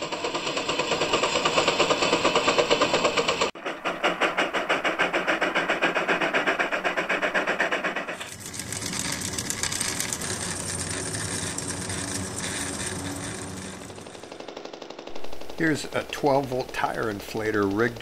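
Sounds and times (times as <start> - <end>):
model steam engine puffing: 0.0 - 18.0.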